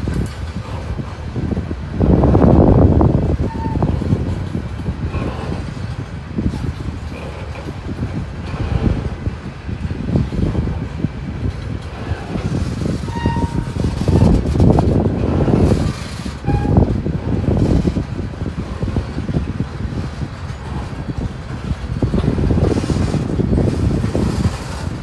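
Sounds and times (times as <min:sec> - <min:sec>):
freight train wheels clattering on rails: 0:00.0 - 0:25.0.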